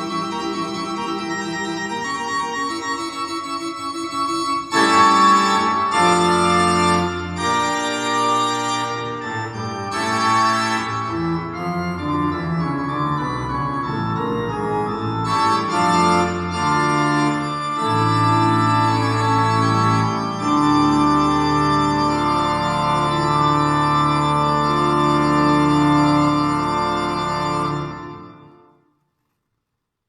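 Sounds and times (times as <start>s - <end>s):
organ chords: 0.0s - 28.8s.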